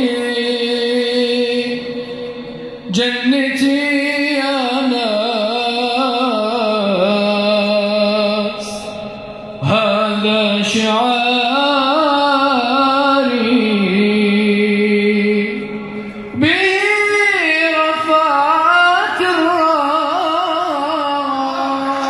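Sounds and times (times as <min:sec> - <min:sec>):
person singing ornamented notes: 0:00.0 - 0:22.0.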